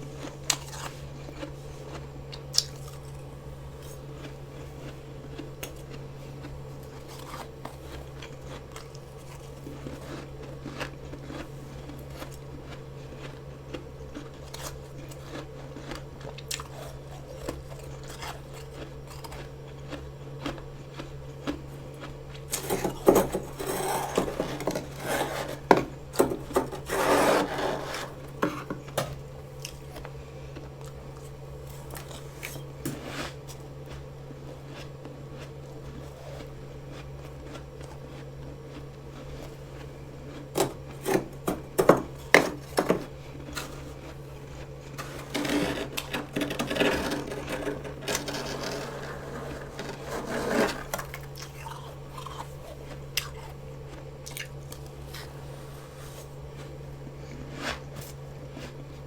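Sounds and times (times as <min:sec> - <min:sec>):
frost scraping and crunching: 0:00.0 - 0:59.0
steady low hum: 0:00.0 - 0:59.0.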